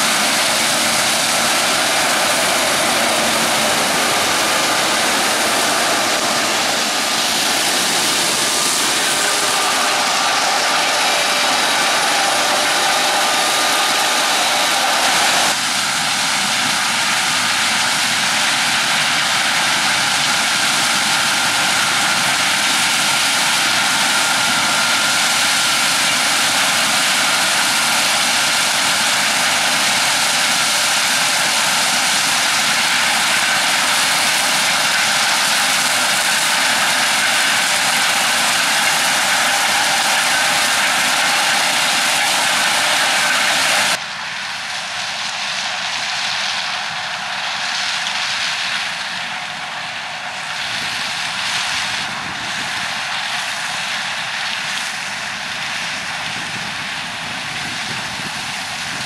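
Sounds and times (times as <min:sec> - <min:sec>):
combine harvester machinery rush: 0:00.0 - 0:59.0
faint steady whine: 0:00.0 - 0:59.0.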